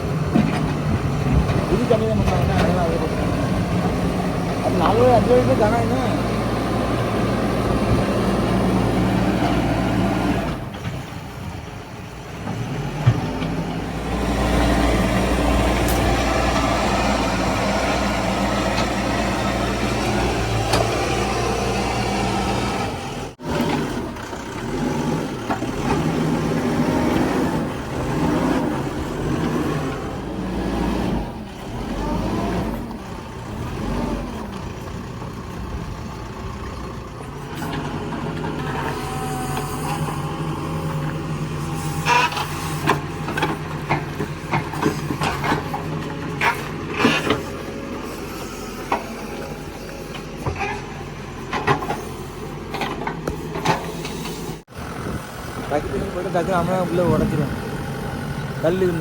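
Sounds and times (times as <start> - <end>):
diesel engine working: 0.0 - 59.0.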